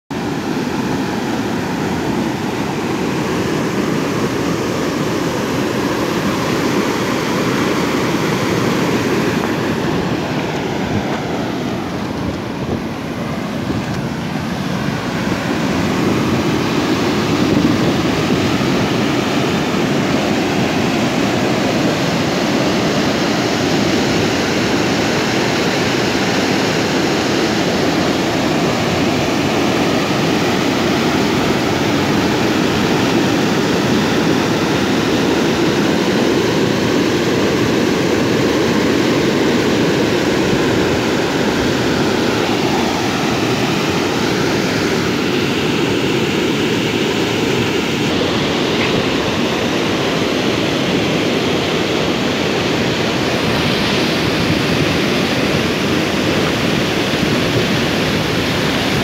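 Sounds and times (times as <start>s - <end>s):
water rushing over a weir: 0.1s - 59.0s.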